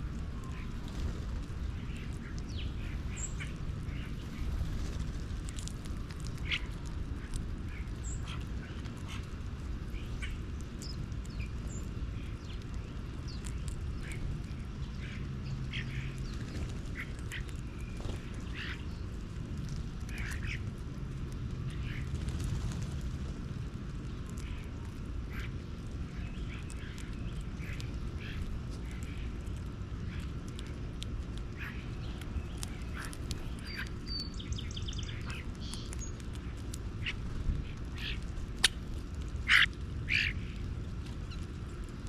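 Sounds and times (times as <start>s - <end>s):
steady low rumble: 0.0s - 42.0s
birds chirping and squawking: 0.4s - 19.2s, 20.0s - 20.8s, 24.3s - 42.0s.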